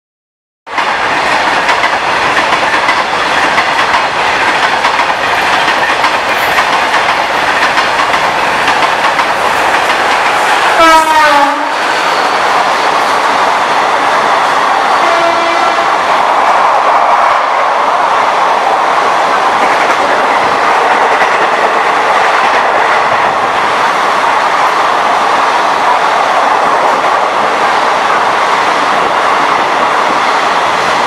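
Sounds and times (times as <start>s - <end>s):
train wheels on rails: 0.7s - 31.0s.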